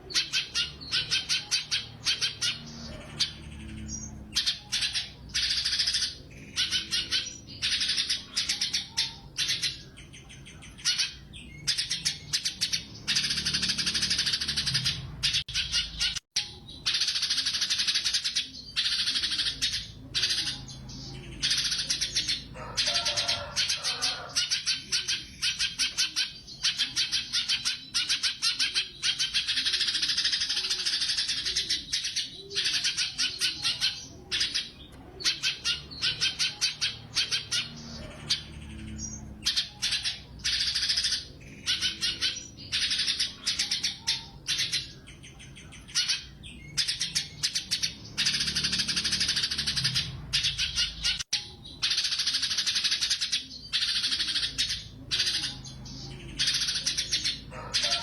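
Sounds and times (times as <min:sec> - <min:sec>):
bird singing in rapid chattering bursts: 0:00.0 - 0:58.0.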